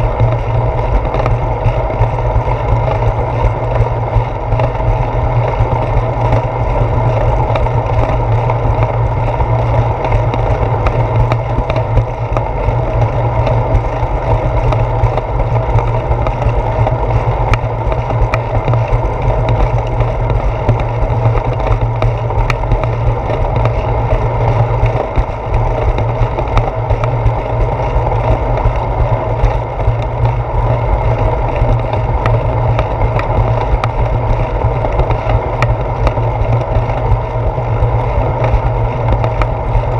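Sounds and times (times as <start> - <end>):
bicycle rolling on concrete: 0.0 - 39.9
wind noise: 0.0 - 39.9
ticks and knocks from vibration: 5.6 - 39.9.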